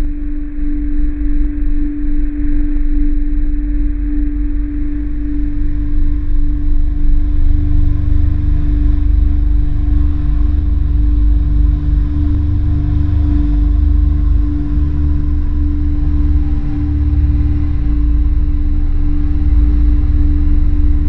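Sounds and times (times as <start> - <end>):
deep rumble: 0.0 - 21.0
ominous held drone tone: 0.0 - 21.0.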